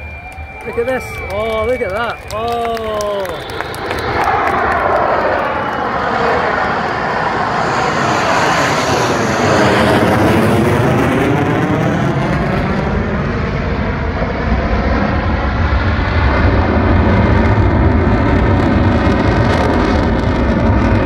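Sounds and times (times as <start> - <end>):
fighter jet passing overhead: 0.0 - 21.0.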